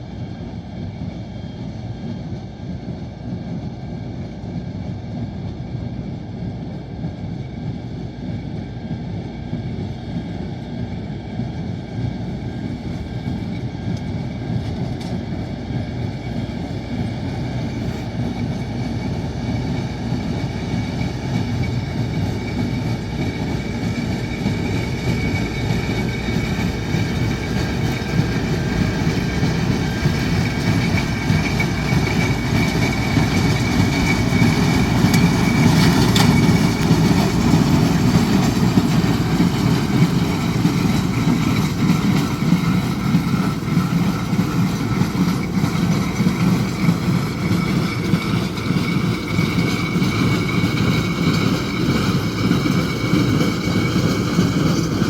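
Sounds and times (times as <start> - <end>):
tractor engine and hay baler drone: 0.0 - 55.0.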